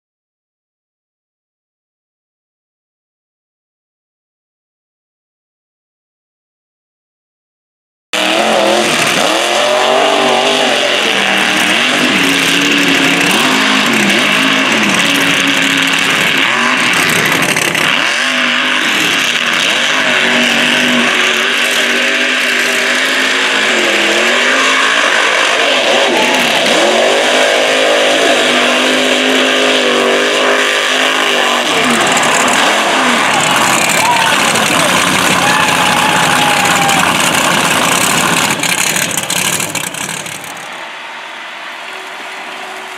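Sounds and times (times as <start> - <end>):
truck engine revving: 8.2 - 42.9.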